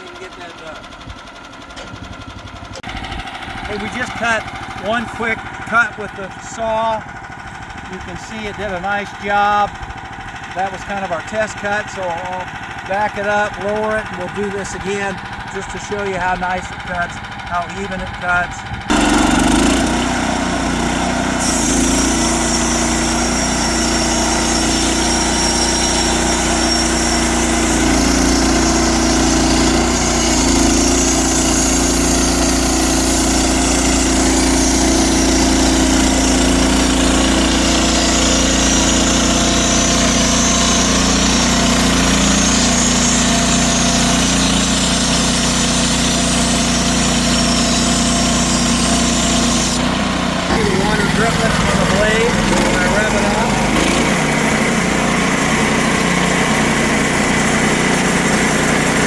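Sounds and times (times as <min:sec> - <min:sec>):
sawmill engine droning: 0:00.0 - 0:59.0.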